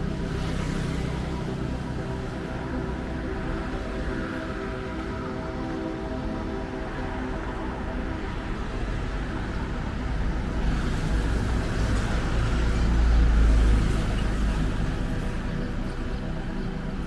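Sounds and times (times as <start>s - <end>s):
background traffic: 0.0s - 17.0s.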